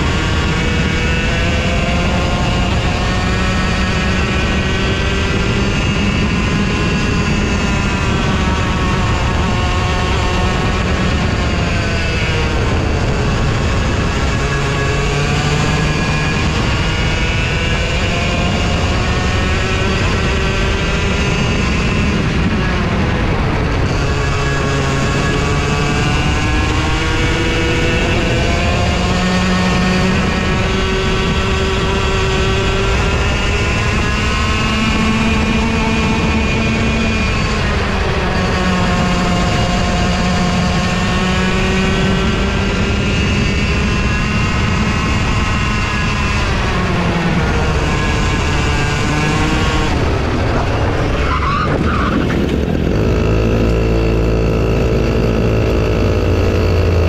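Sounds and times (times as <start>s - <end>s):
kart engine accelerating: 0.0s - 57.0s.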